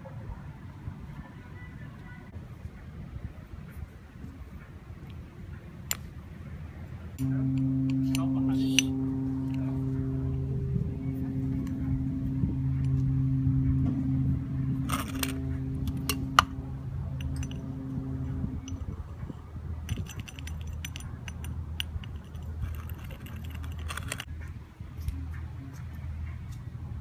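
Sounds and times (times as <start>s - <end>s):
low hum: 4.5s - 27.0s.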